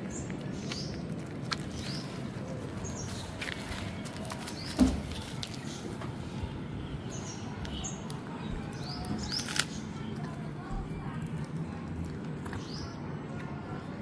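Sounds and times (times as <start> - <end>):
cat crunching dry kibble: 0.0 - 5.8, 8.1 - 14.0.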